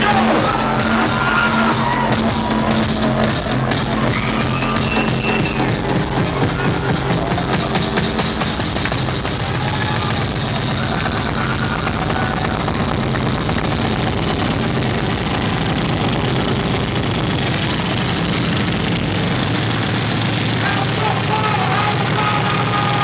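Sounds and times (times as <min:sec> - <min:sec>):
crowd cheering: 0:00.0 - 0:23.0
loud electronic dance music: 0:00.0 - 0:23.0.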